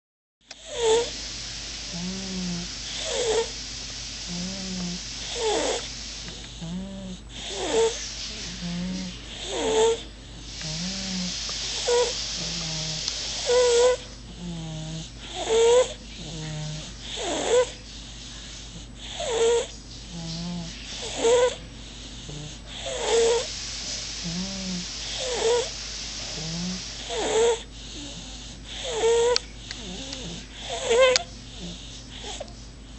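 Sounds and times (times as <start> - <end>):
snoring-like breathing: 0.5 - 1.1, 1.9 - 3.5, 4.2 - 23.5, 24.2 - 32.5.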